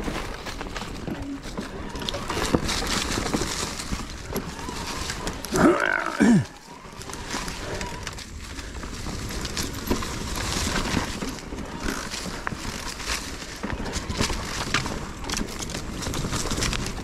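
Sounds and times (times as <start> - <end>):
bike rattling over stones: 0.0 - 17.0
bike tyre noise: 0.0 - 17.0.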